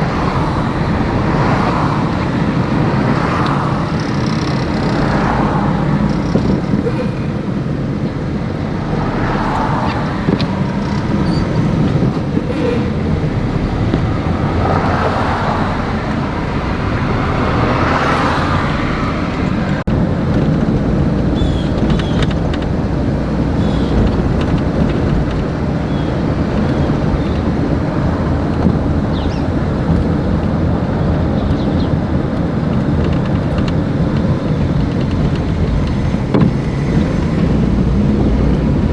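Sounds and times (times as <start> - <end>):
road and traffic rumble: 0.0 - 38.9
vehicles passing: 0.0 - 38.9.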